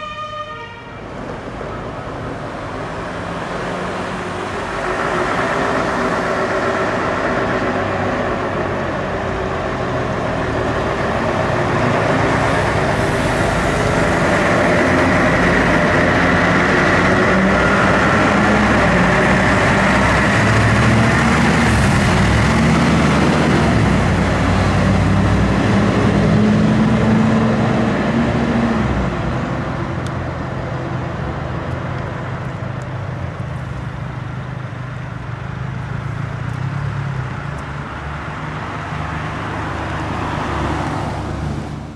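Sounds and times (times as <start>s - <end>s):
diesel truck engine driving past: 0.9s - 41.9s.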